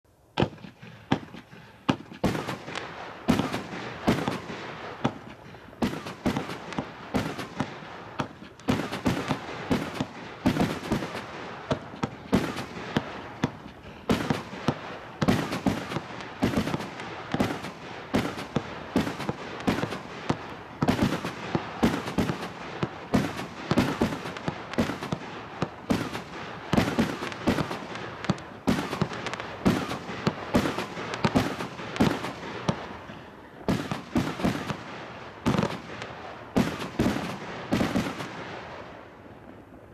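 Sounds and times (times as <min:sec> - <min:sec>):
fireworks reports: 0:00.4 - 0:39.9.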